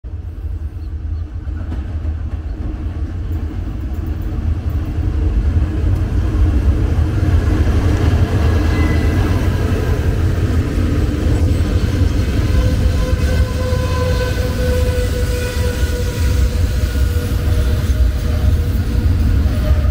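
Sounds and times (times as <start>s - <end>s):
diesel locomotive engine rumble: 0.0s - 19.9s.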